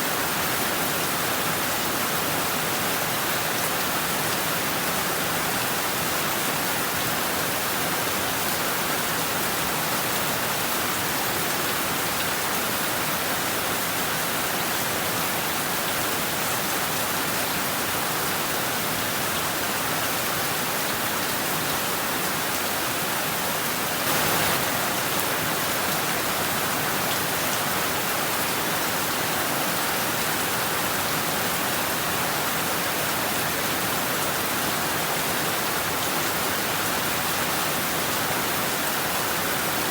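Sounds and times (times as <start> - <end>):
heavy rain on rooftops: 0.0 - 39.9.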